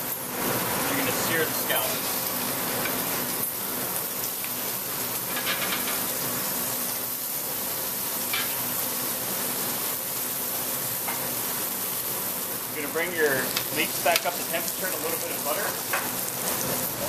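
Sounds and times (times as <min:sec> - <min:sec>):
scallops sizzling in pan: 0:00.0 - 0:17.0.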